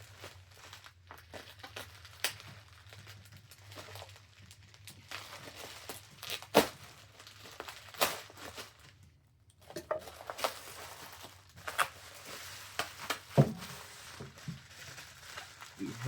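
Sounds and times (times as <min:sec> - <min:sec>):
packaging tearing and rustling: 0:00.0 - 0:16.0.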